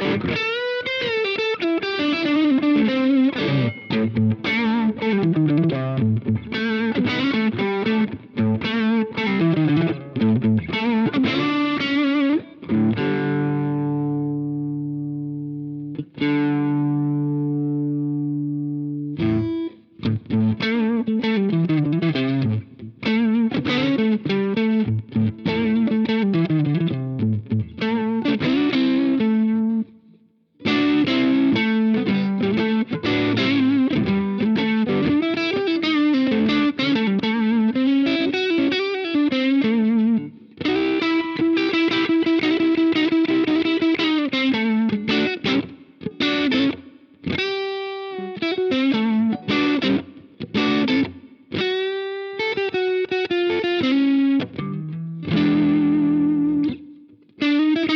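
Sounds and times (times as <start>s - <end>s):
overdriven electric guitar: 0.0s - 57.9s.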